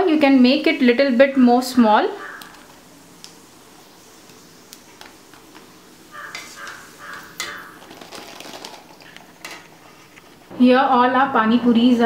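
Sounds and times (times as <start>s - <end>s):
food deep-frying in hot oil: 0.0s - 9.9s.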